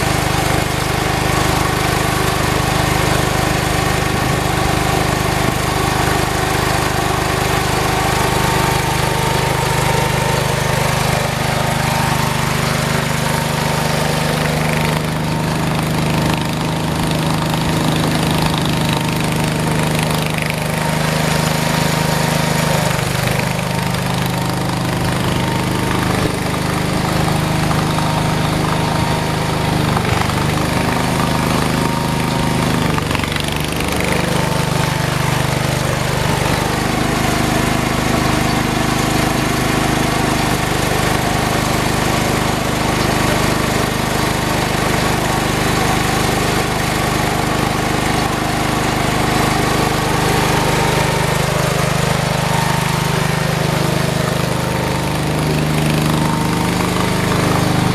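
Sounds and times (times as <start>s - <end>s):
snow-clearing machine engine: 0.0s - 57.9s.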